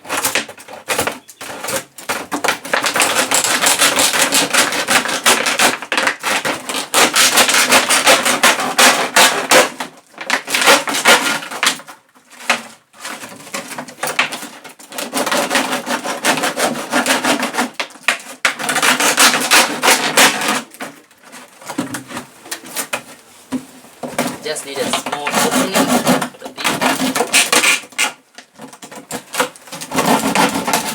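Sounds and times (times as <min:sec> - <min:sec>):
rasping cuts through plastic bottle: 0:00.0 - 0:23.1, 0:24.0 - 0:30.9.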